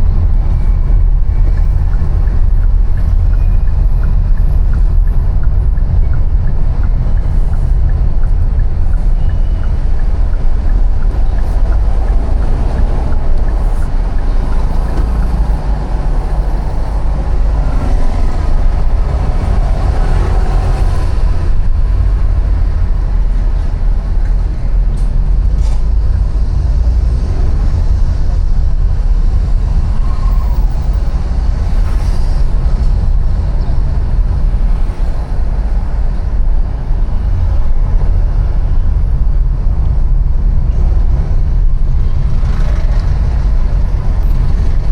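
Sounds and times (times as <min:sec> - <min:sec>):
city street traffic: 0:00.0 - 0:44.9
wind rumble on microphone: 0:00.0 - 0:44.9.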